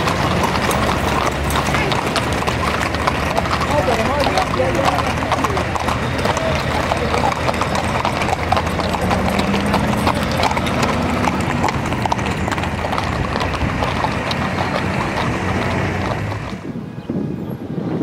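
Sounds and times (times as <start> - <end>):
horse hooves on asphalt: 0.0 - 16.9.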